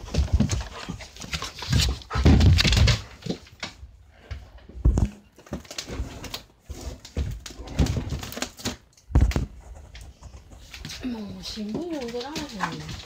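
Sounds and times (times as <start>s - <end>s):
dog paws thumping on wooden floor: 0.0s - 8.4s, 9.1s - 13.0s.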